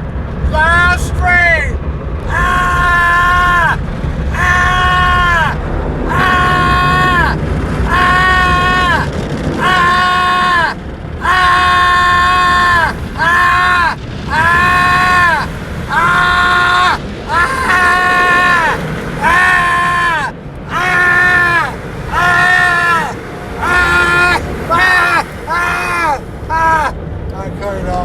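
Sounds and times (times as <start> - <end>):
steady low rumble: 0.0 - 28.0
man screaming: 0.5 - 27.0.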